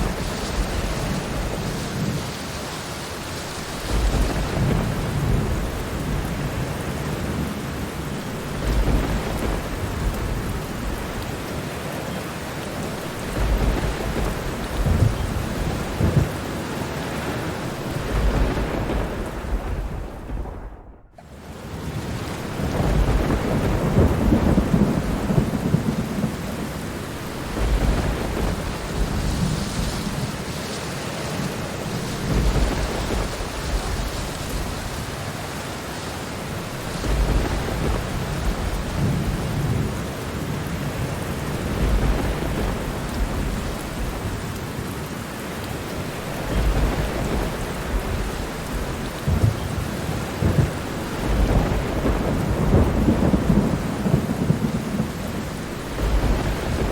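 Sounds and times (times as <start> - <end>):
heavy rain: 0.0 - 56.9
thunder rumbling: 0.0 - 56.9.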